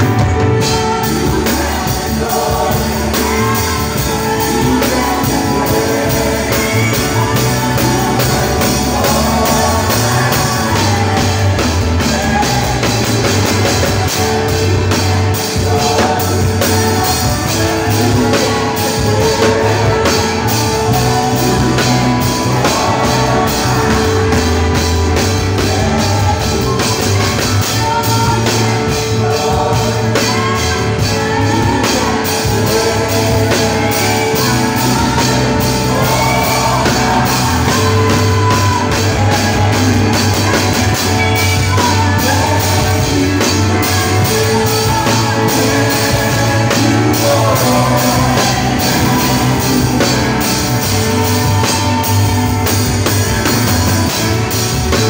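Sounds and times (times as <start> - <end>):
electric bass guitar: 0.0 - 55.0
people singing: 0.0 - 55.0.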